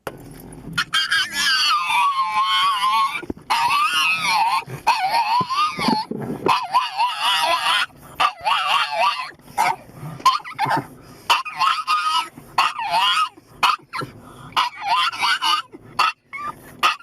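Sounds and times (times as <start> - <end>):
dog whining and yowling: 0.8 - 17.0
dog yipping: 0.8 - 17.0.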